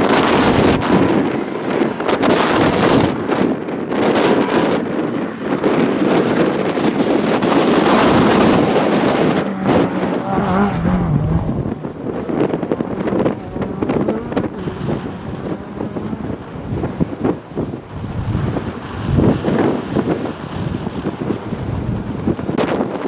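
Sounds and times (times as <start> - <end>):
rally car passing at speed: 0.0 - 21.3
wind buffeting microphone: 0.0 - 23.0.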